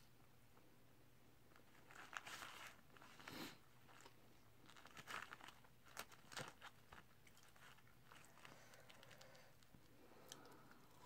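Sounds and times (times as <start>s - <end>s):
paper crinkling: 1.5s - 10.5s.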